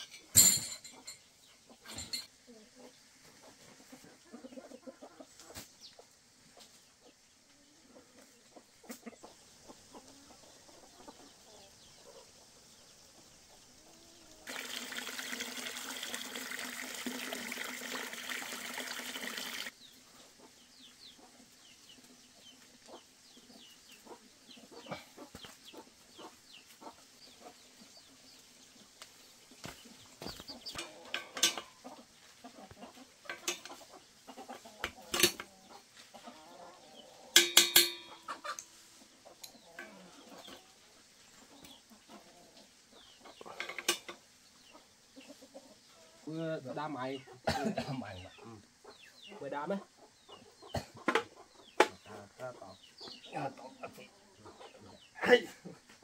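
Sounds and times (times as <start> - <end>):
chickens clucking: 0.9 - 56.0.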